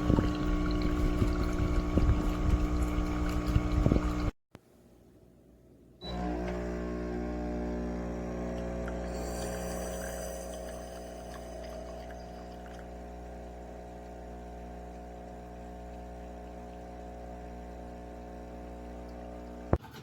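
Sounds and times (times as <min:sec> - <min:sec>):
espresso machine pump buzzing: 0:00.0 - 0:04.3, 0:06.0 - 0:19.8.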